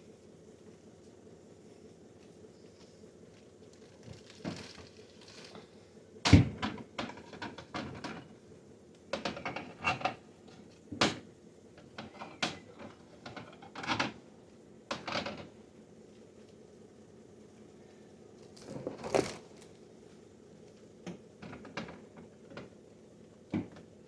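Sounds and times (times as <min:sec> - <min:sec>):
refrigerator hum: 0:00.0 - 0:24.0.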